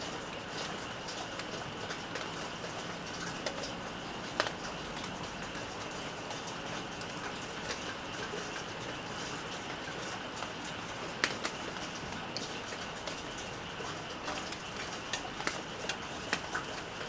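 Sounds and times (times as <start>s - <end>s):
drips ticking on surfaces: 0.0s - 17.0s
steady rain: 0.0s - 17.0s.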